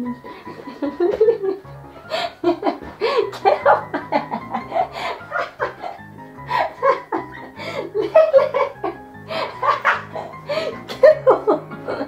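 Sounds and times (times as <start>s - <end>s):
background music with bass line: 0.0s - 12.0s
woman laughing: 0.5s - 12.0s.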